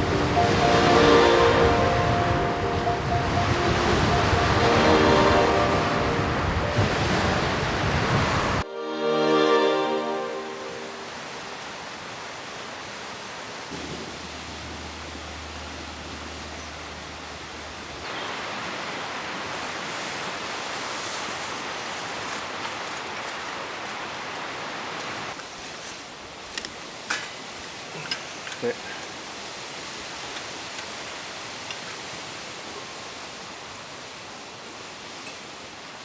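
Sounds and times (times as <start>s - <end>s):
rushing outdoor ambience: 0.0s - 36.0s.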